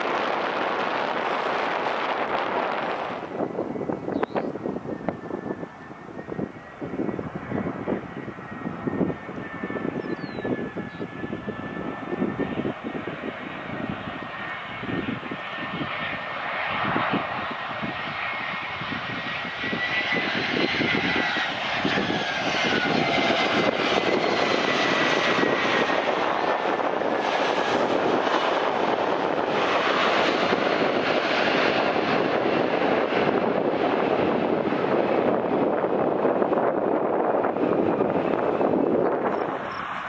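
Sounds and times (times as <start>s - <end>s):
jet engine whine sliding down: 0.0s - 40.0s.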